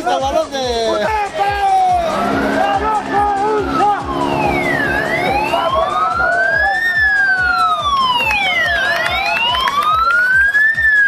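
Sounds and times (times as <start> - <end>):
wailing siren: 1.7 - 11.0.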